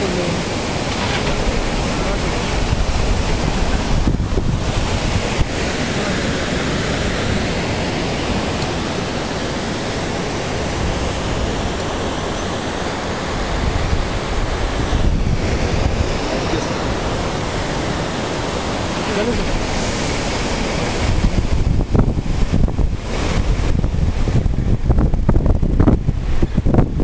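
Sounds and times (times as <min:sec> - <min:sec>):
river rushing over boulders: 0:00.0 - 0:27.0.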